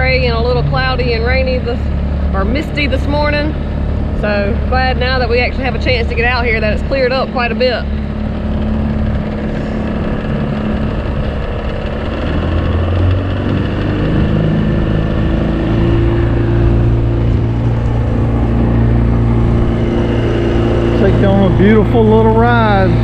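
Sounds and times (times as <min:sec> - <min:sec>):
motorboat engine drone: 0:00.0 - 0:23.0.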